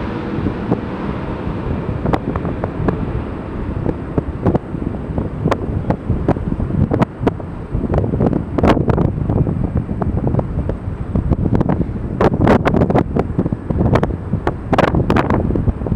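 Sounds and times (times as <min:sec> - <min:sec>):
jet airliner engine noise: 0:00.0 - 0:15.9
wind buffeting microphone: 0:00.0 - 0:15.9.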